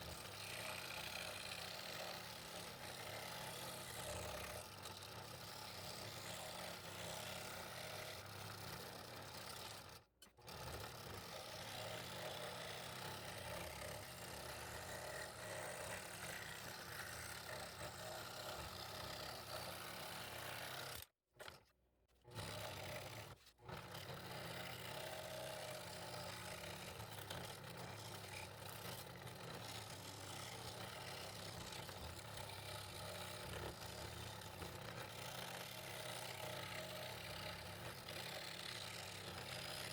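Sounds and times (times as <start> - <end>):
scroll saw cutting wood: 0.0 - 39.9.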